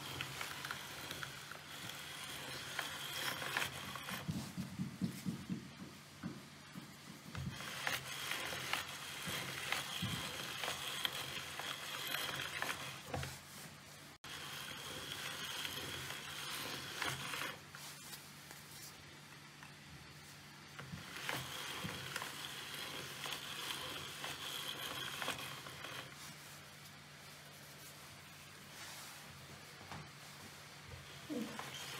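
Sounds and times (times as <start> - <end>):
pasta machine rollers clicking: 0.0 - 5.6, 6.2 - 18.5, 19.4 - 28.7, 30.6 - 31.9.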